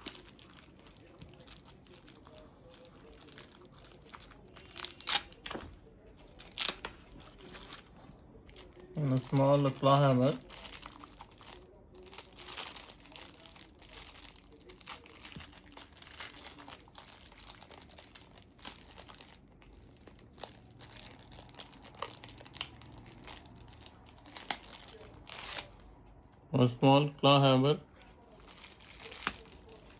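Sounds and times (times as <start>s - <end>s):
packaging crinkling and rustling: 0.0s - 26.3s, 27.9s - 29.9s.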